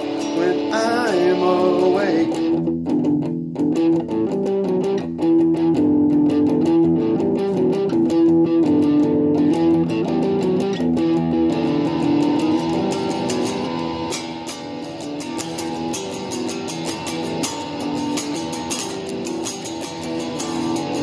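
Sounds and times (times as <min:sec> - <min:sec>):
electric guitar strummed and picked: 0:00.0 - 0:21.0.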